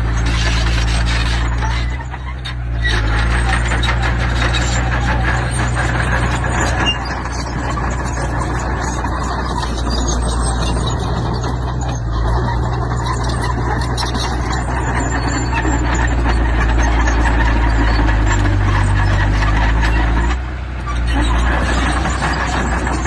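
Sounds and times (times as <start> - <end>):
clatter of metal and stone: 0.0 - 23.0
diesel machinery engine running: 0.0 - 23.0.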